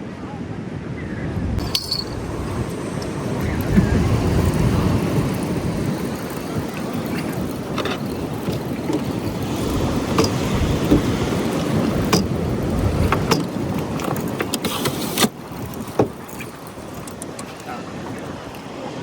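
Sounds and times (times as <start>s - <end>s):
wind buffeting microphone: 0.4s - 19.0s.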